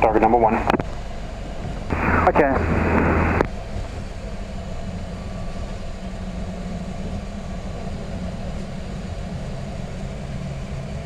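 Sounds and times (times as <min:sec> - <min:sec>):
airplane cockpit rumble: 0:00.0 - 0:11.0.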